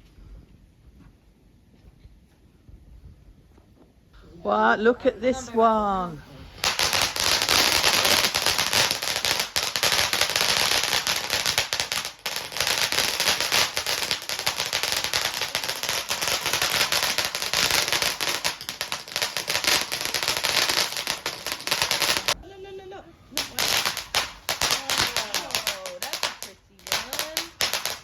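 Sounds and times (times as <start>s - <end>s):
firework crackling: 4.5s - 22.4s, 23.3s - 28.0s.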